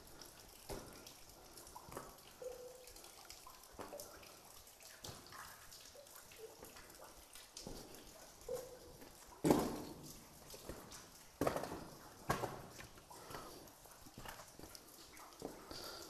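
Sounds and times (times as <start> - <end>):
water drops plinking into pool: 0.0 - 16.0.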